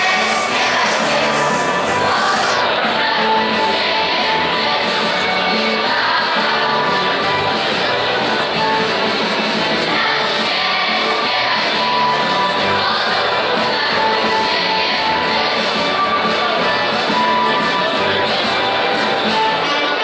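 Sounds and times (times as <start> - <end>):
choir singing a carol: 0.0 - 20.0.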